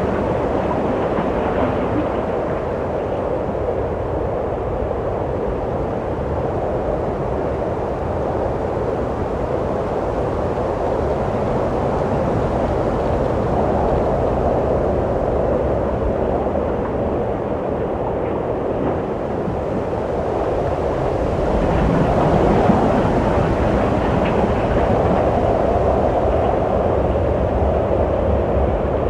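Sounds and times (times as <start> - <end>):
wind blowing: 0.0 - 29.0.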